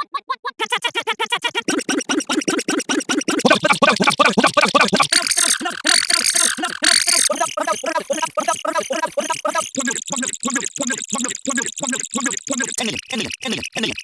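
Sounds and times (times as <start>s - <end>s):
rapid sped-up sound clips: 0.6s - 14.0s.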